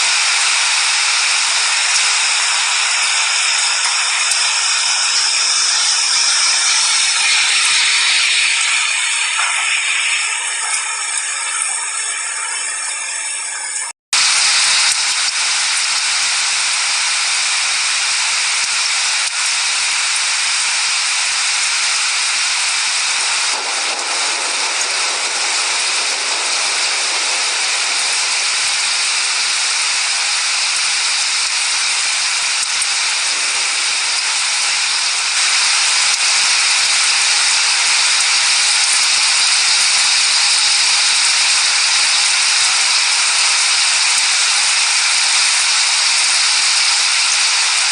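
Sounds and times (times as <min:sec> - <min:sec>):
heavy rain: 0:00.0 - 0:12.0, 0:12.6 - 0:47.9.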